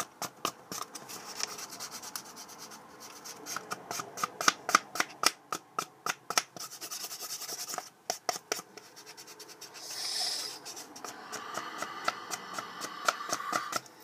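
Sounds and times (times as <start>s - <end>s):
marker scratching on cardboard: 0.0s - 5.1s, 6.3s - 13.9s.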